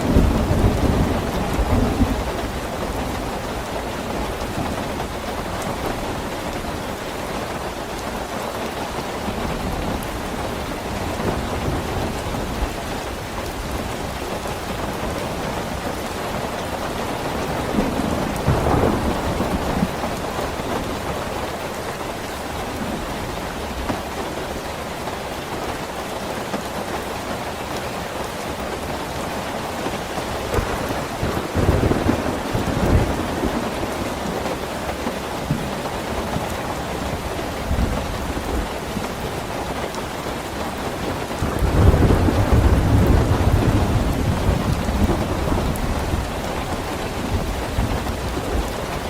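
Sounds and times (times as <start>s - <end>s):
dense rainfall: 0.0s - 49.0s.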